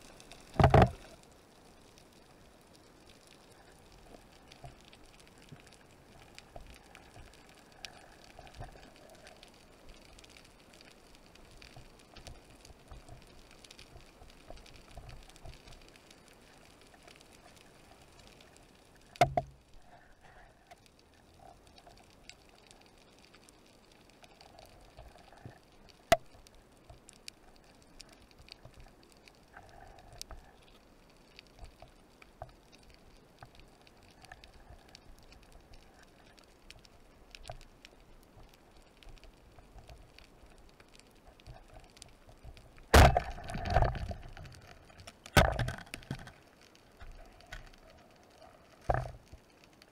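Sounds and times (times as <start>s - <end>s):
underwater crackle of tiny clicks: 0.0s - 49.9s.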